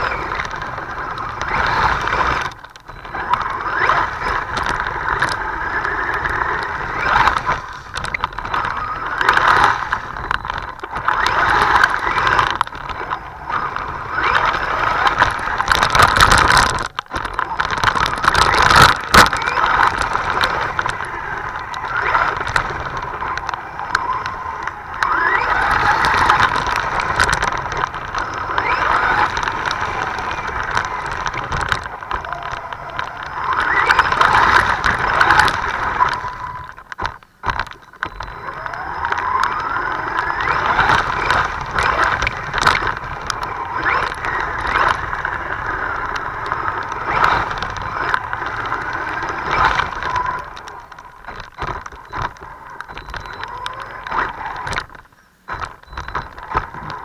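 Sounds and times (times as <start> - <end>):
toy truck motor and tyre noise: 0.0 - 57.0.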